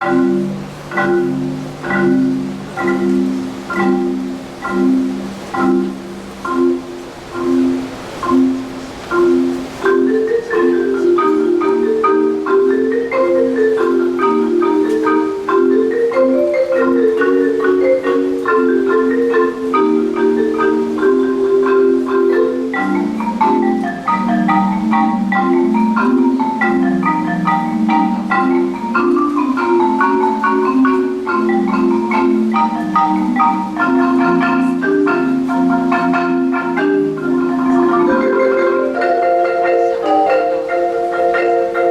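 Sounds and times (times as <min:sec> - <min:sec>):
marimba played with mallets: 0:00.0 - 0:41.9.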